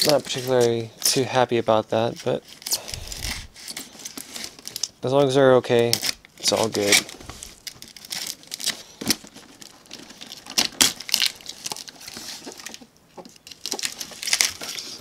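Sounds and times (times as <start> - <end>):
plastic crinkling and tearing: 0.0 - 15.0.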